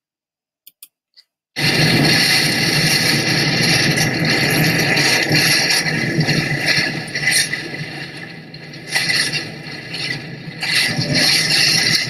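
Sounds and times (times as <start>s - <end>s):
hurricane wind gusting: 1.6s - 12.0s.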